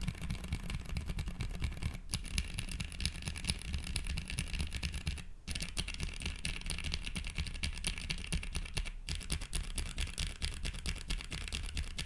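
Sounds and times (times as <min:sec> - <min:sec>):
fast typing on mechanical keyboard: 0:00.0 - 0:12.0.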